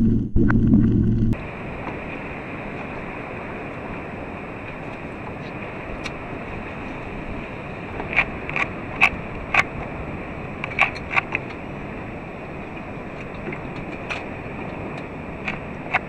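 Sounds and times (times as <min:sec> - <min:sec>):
boat rushing over water: 0:00.0 - 0:16.0.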